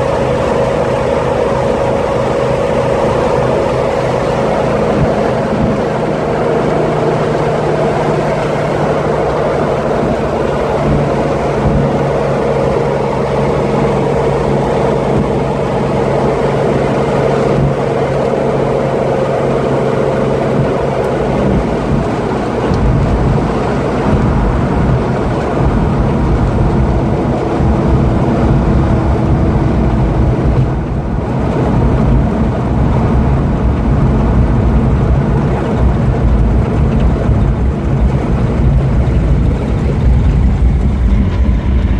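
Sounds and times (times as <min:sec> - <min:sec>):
car engine rumbling: 0:00.0 - 0:41.9.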